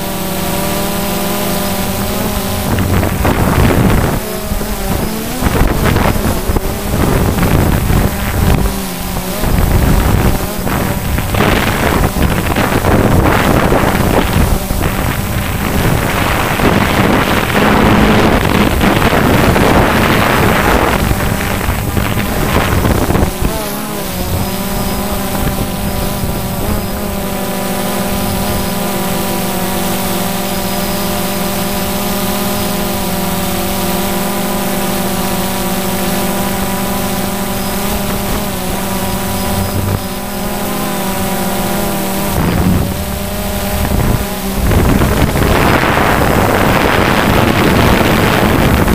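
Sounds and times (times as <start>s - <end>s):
drone motors humming: 0.0s - 48.9s
wind on microphone: 0.0s - 48.9s.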